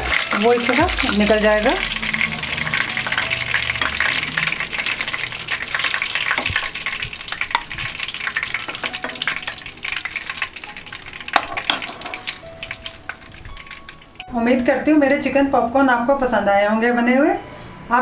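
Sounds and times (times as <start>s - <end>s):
chicken deep-frying with crackling: 0.0s - 15.9s.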